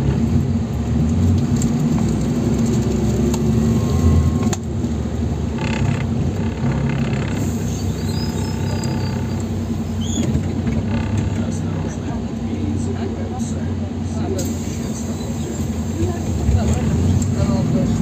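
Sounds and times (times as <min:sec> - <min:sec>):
bus diesel engine droning: 0:00.0 - 0:18.0
road and tyre rumble: 0:00.0 - 0:18.0.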